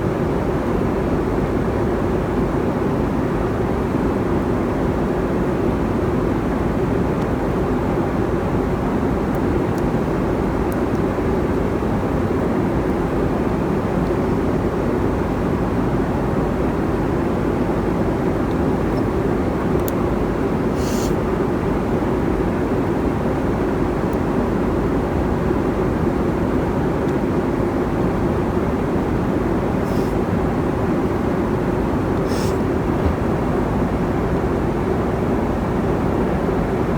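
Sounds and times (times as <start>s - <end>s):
airplane cabin roar: 4.7s - 36.8s.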